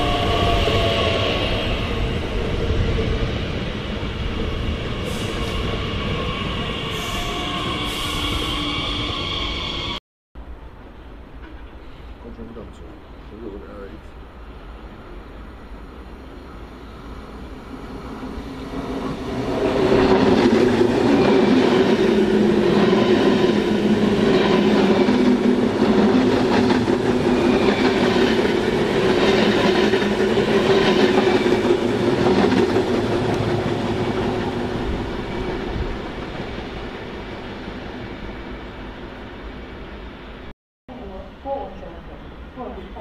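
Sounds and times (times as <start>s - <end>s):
electric train hum: 0.0s - 43.0s.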